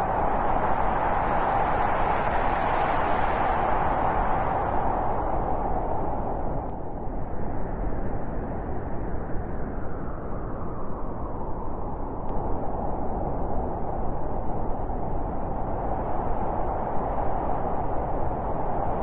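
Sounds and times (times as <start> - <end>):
wind blowing in snowstorm: 0.0 - 19.0.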